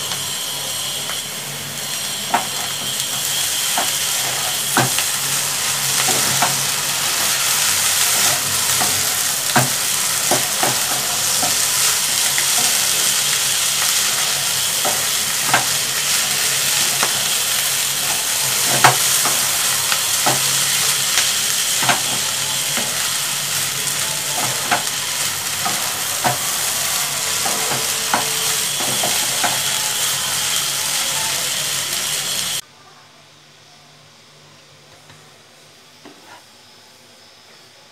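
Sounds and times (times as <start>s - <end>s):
spatula scraping a pan: 0.0s - 30.8s, 36.1s - 36.5s
noodles sizzling in a wok: 0.0s - 32.6s.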